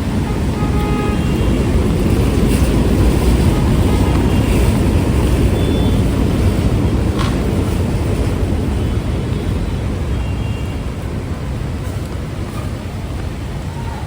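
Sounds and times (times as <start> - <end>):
traffic on a wet street: 0.0 - 14.0.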